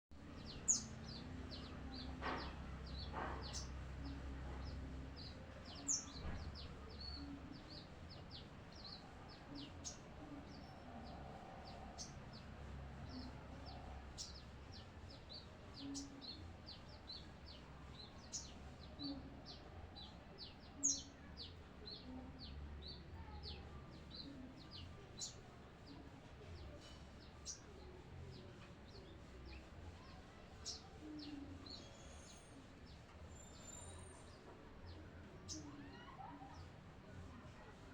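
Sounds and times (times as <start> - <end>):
bird chirping and twittering: 0.2 - 26.0, 26.6 - 36.9.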